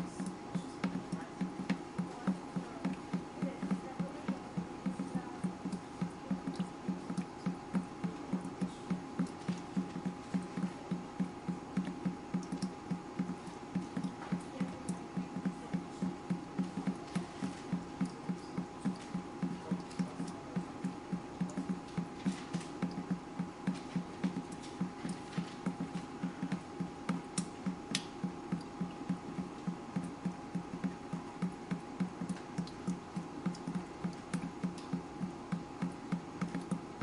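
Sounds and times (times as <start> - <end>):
water dripping: 0.0 - 37.0.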